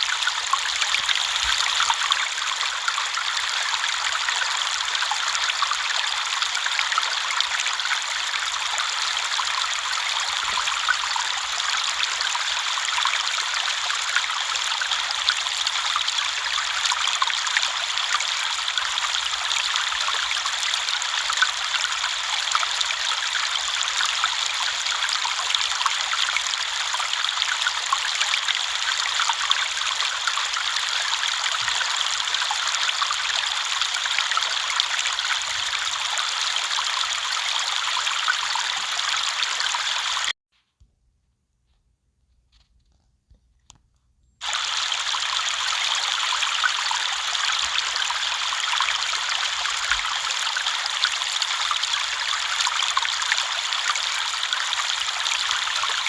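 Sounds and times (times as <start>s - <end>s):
river flowing over stones: 0.0s - 40.3s, 44.4s - 56.0s.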